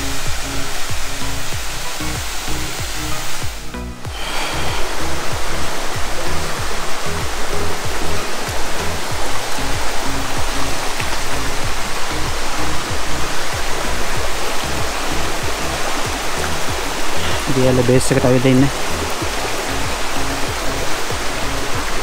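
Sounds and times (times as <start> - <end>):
background music with bass line: 0.0 - 22.0
waterfall rushing: 0.0 - 22.0.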